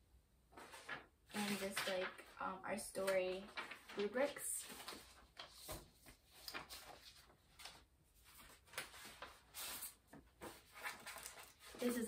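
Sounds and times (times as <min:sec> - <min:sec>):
paper rustling and sliding: 0:00.5 - 0:12.0.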